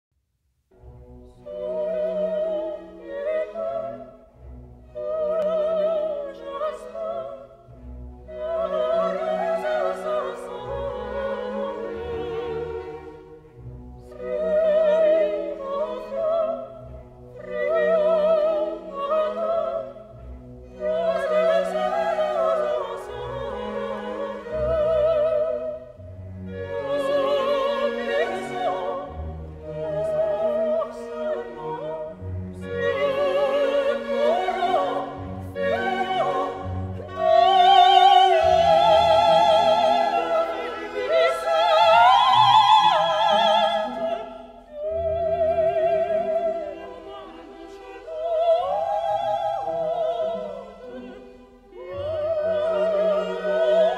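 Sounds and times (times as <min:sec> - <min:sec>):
orchestra playing: 0:00.7 - 0:53.9.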